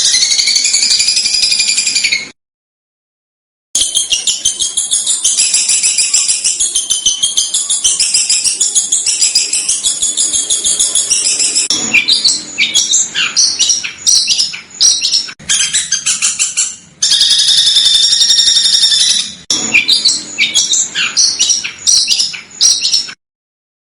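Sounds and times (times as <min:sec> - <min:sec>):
dense bird trill: 0:00.0 - 0:02.4, 0:03.8 - 0:23.2
songbird harsh chirps: 0:03.8 - 0:23.2.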